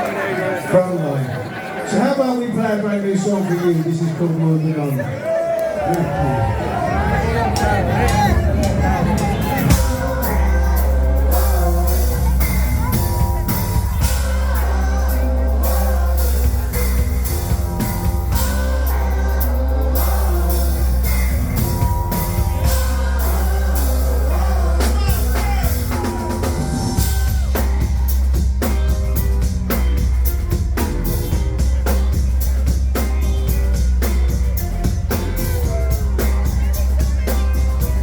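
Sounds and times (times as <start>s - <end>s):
live band music: 5.8s - 38.0s
heavy bass line: 6.0s - 38.0s
drum kit beat: 6.9s - 38.0s.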